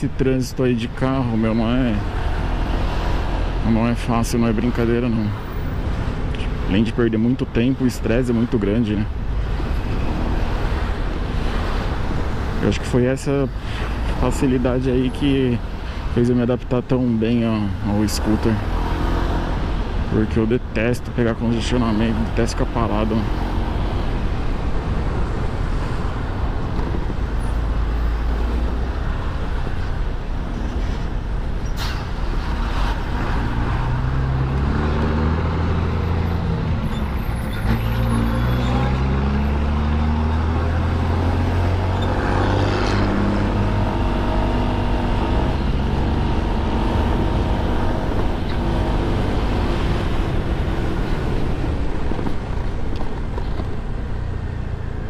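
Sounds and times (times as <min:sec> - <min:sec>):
road noise: 0:00.0 - 0:55.0
trucks and cars passing: 0:00.0 - 0:55.0.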